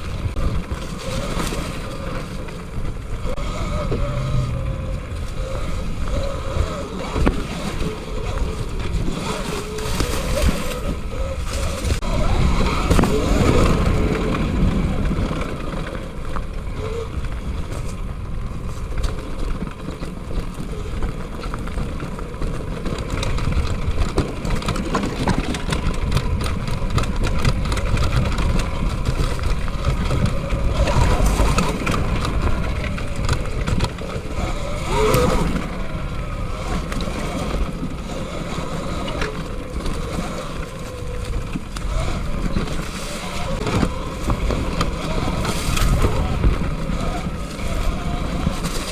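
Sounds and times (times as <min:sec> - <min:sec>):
bike knocks and rattles: 0:00.0 - 0:48.9
wind and tyre rumble: 0:00.0 - 0:48.9.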